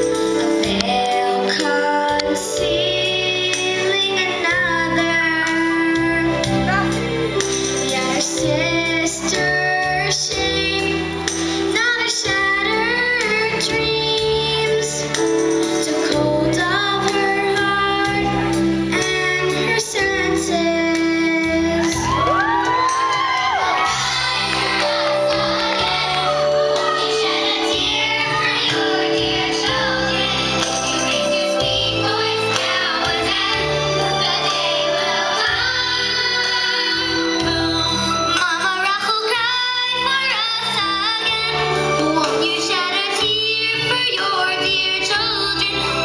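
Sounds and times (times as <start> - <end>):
girl singing with vibrato: 0.0 - 6.8, 7.8 - 15.2, 15.8 - 46.0.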